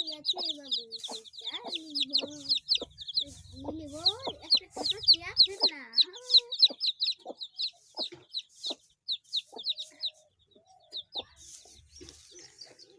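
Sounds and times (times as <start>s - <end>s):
birds chirping: 0.0s - 12.9s.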